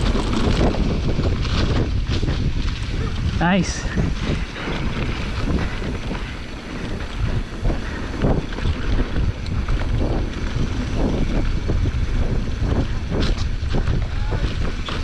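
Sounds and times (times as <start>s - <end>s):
bike knocks and rattles: 0.0s - 15.0s
wind buffeting microphone: 0.0s - 15.0s.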